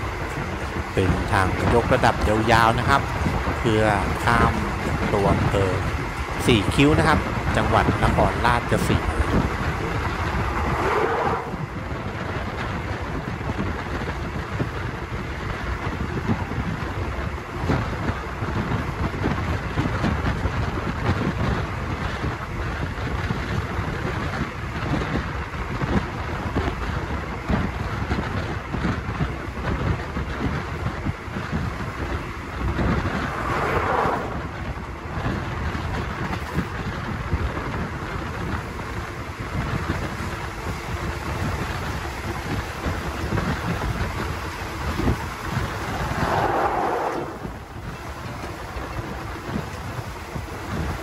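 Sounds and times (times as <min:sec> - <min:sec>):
rush of wind: 0:00.0 - 0:51.0.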